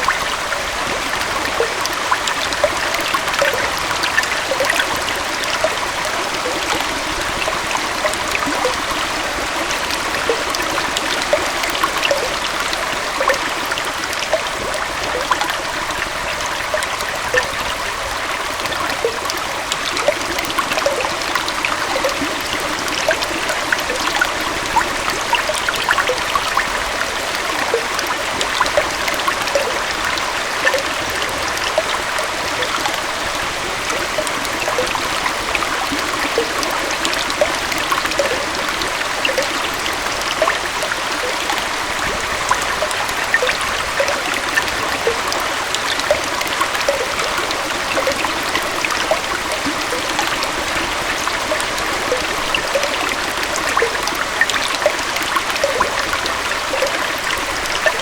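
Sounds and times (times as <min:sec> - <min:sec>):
small waterfall flowing into stream: 0:00.0 - 0:58.0.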